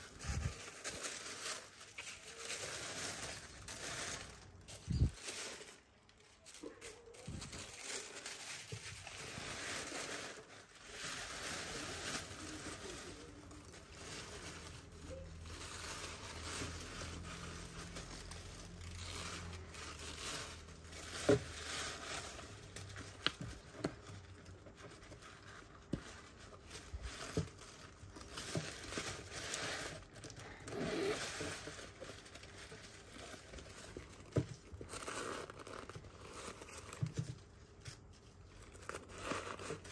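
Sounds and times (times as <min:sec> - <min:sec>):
tissue paper rustling: 0:00.0 - 0:39.9.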